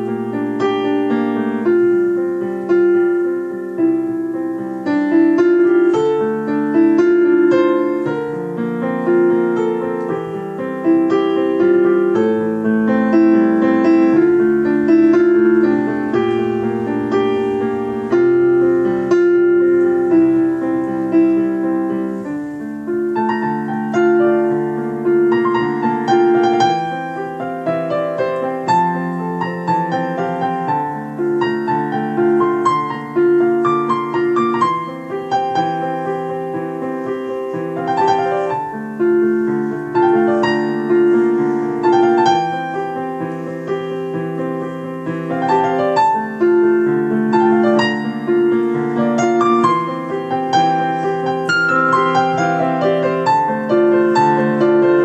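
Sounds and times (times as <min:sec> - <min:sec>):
digital piano melody: 0:00.0 - 0:55.0
recording hiss: 0:00.0 - 0:55.0.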